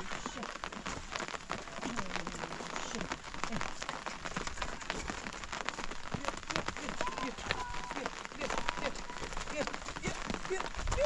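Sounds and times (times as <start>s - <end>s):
rain drops striking surface: 0.0s - 11.0s.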